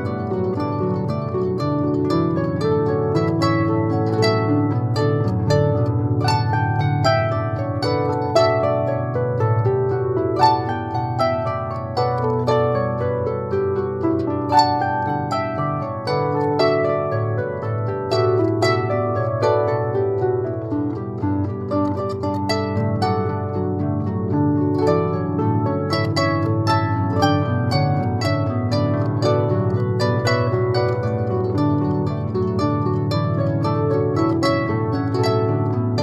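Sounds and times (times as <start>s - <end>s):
harp playing pop melody: 0.0s - 36.0s.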